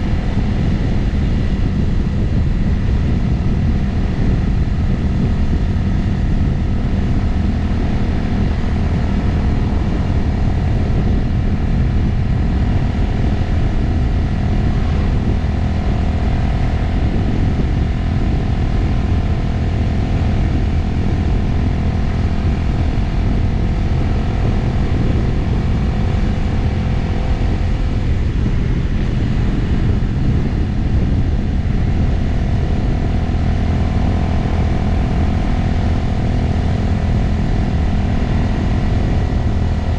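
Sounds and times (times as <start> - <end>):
motorcycle engine cruising: 0.0 - 39.9
wind over microphone: 0.0 - 39.9.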